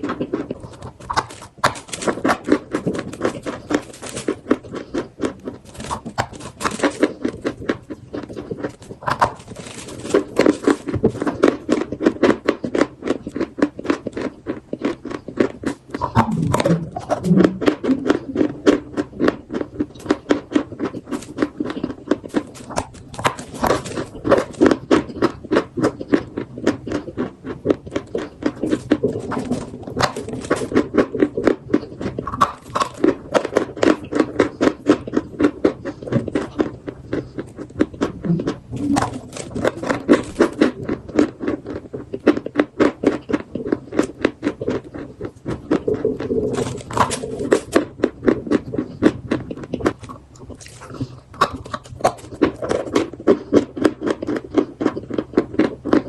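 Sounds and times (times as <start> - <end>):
chalk being chewed: 0.0 - 56.0.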